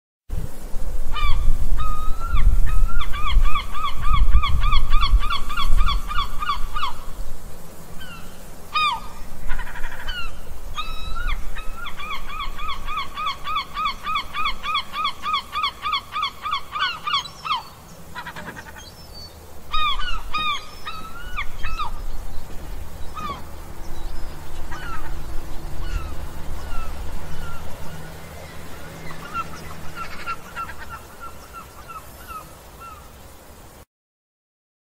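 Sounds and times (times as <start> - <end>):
gulls calling: 1.1 - 7.2, 7.9 - 33.4.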